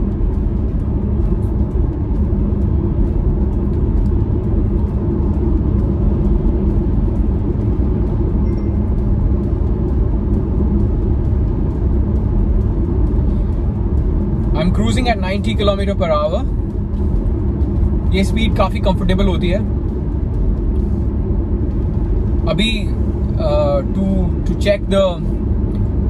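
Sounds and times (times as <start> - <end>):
engine hum: 0.0 - 26.0
road and tyre rumble: 0.0 - 26.0.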